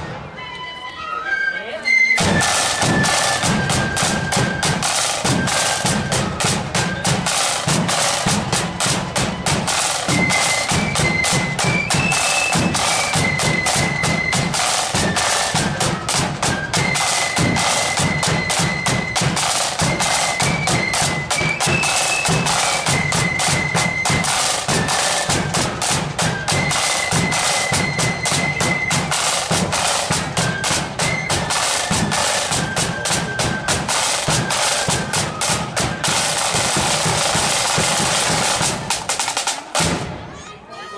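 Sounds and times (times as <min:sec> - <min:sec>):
flute melody: 0:00.0 - 0:40.6
snare drums marching rhythm: 0:02.2 - 0:40.2.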